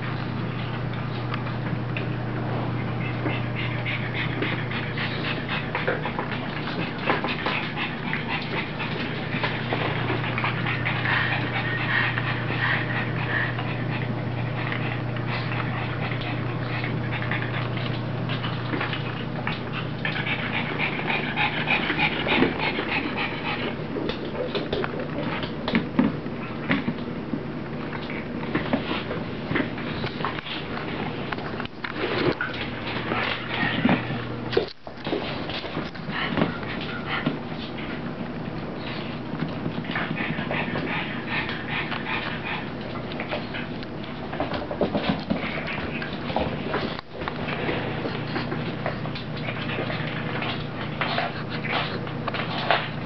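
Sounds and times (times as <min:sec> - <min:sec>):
dogs panting: 0:00.0 - 0:27.0, 0:27.8 - 0:53.0.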